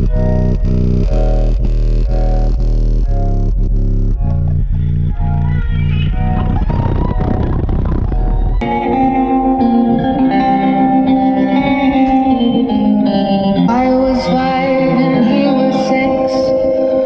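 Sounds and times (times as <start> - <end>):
deep bass: 0.0 - 17.0
plucked guitar music: 0.0 - 17.0.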